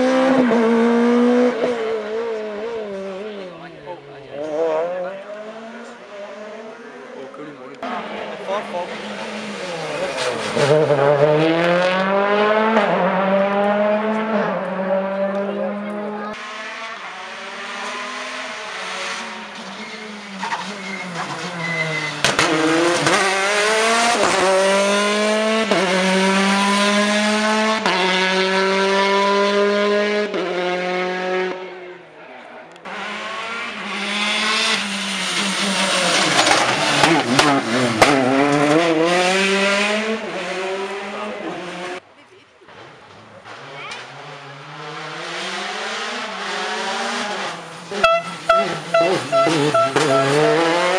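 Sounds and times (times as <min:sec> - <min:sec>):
rally car engines at full throttle: 0:00.0 - 0:50.9.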